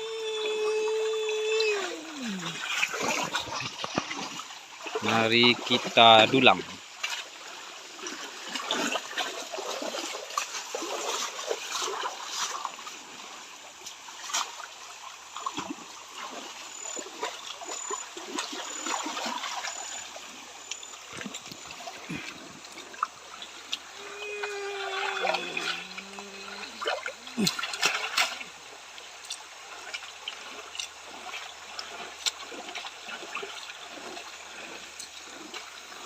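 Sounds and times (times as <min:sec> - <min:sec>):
water splashing and trickling: 0:00.0 - 0:36.0.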